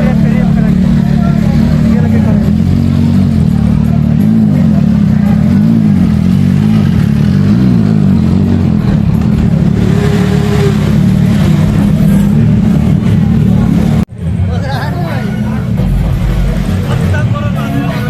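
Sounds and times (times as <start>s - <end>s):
motorbike engines revving: 0.0s - 18.0s.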